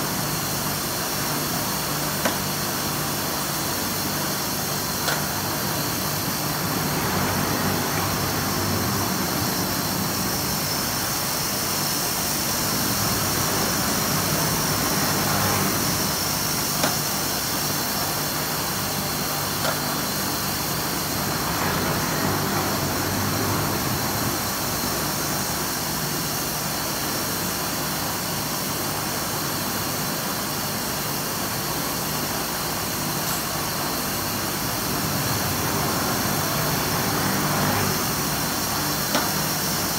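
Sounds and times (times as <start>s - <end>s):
foam cutting machine humming: 0.0s - 26.8s, 31.9s - 39.9s.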